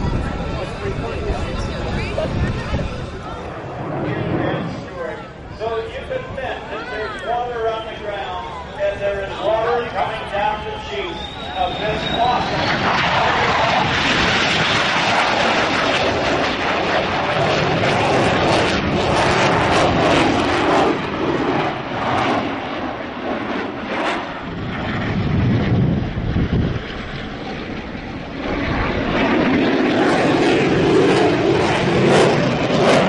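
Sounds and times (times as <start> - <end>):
fighter jet engines roaring: 0.0 - 33.0.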